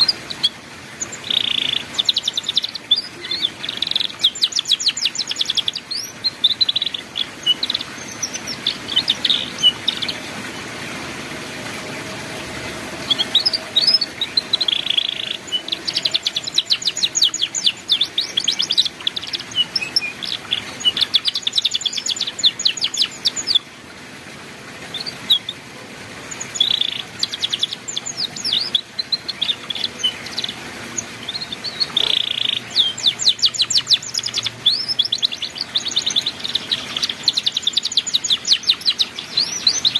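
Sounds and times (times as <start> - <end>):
canary singing trills: 0.0 - 10.8, 11.6 - 23.7, 24.8 - 39.9.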